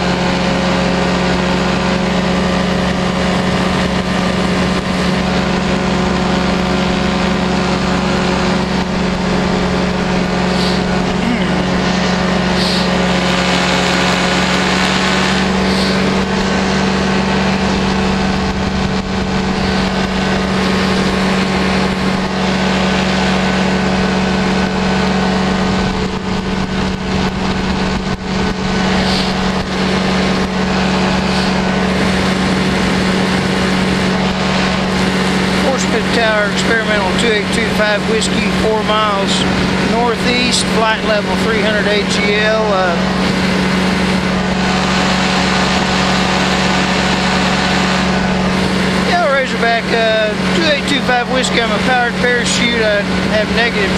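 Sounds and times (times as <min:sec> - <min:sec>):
engine and propeller drone: 0:00.0 - 0:53.9.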